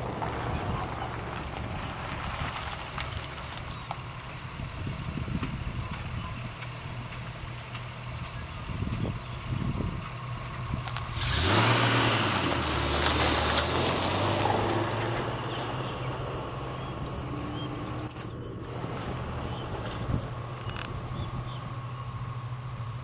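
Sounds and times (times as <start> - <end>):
railmotor diesel engine running: 0.0 - 11.2, 14.9 - 23.0.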